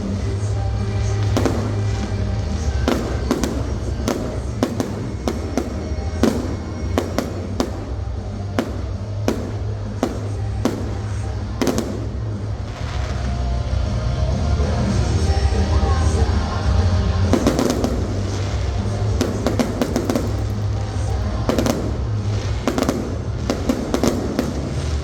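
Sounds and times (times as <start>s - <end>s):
fireworks bursting with sharp bangs: 0.0s - 25.0s
music playing: 0.0s - 25.0s.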